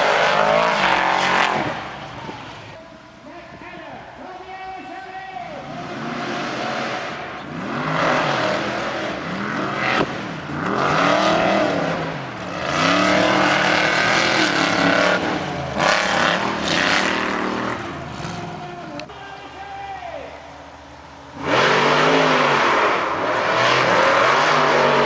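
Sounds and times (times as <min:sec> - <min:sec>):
racing car engines revving: 0:00.0 - 0:03.2, 0:04.4 - 0:19.6, 0:20.2 - 0:25.0.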